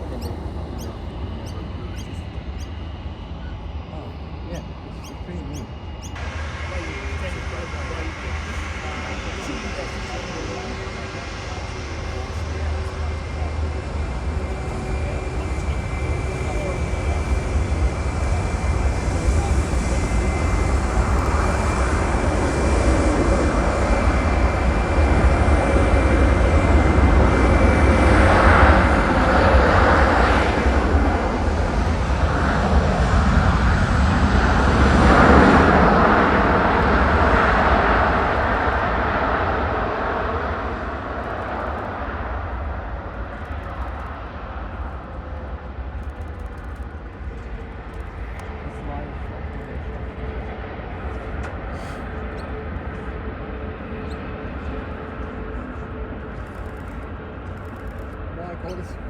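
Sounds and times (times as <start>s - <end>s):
jet engines passing: 0.0s - 59.0s.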